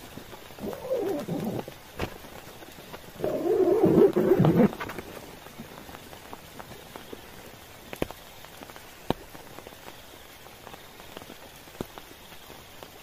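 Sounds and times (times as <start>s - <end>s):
rain on a tent: 0.0s - 13.0s.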